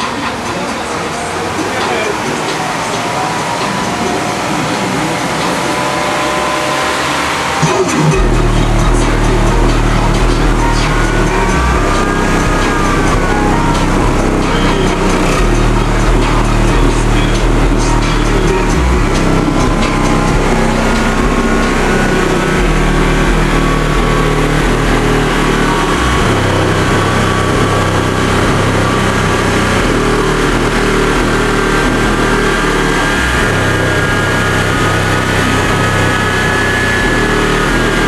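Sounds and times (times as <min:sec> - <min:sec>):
bass-heavy music from car stereo: 0:00.0 - 0:38.0.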